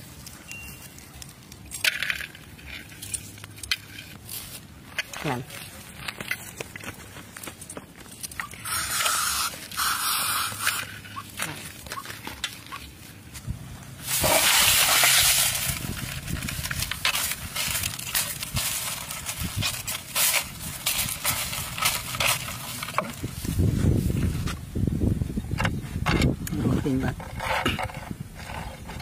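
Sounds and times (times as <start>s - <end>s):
crushed ice crunching and clicking: 0.0s - 23.6s.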